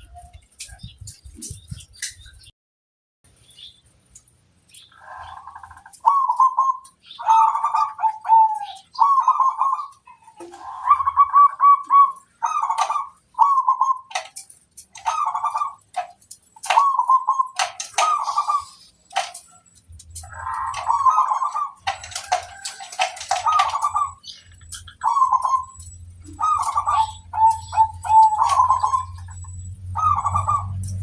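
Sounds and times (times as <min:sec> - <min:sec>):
dove cooing: 0:05.0 - 0:31.0.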